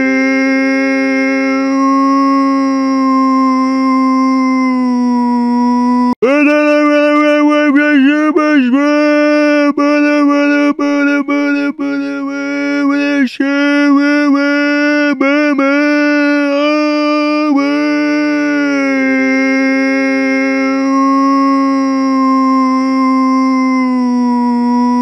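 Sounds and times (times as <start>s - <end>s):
person screaming high-pitched: 0.0s - 9.6s, 11.8s - 25.0s.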